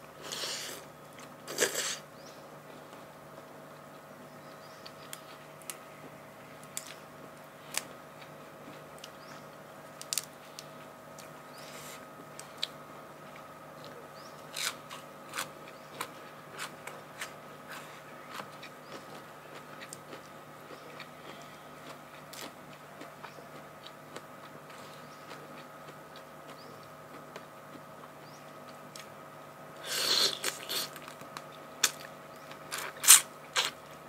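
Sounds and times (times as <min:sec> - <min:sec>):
crunching and chewing: 0:00.2 - 0:34.0.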